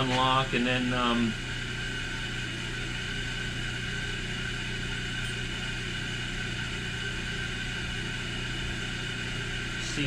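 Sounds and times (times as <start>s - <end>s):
electric motor hum: 0.0s - 10.0s.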